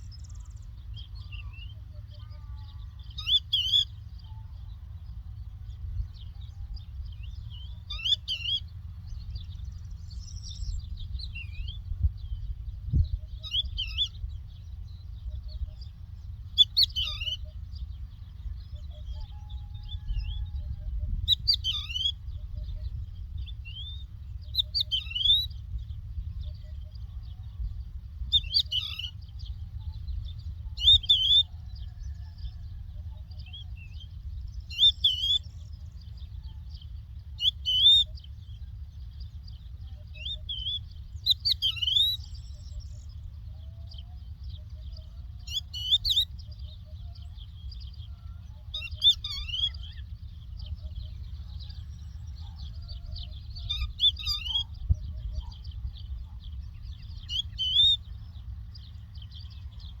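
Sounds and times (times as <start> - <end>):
lark singing: 0.0 - 60.0
low rumble: 3.9 - 60.0.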